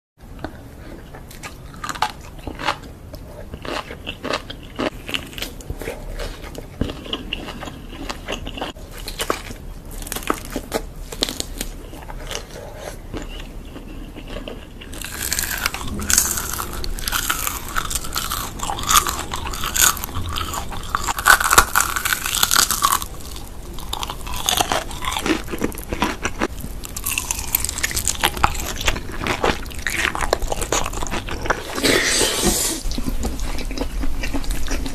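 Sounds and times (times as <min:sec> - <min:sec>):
chewing crunchy food: 0:00.3 - 0:34.9.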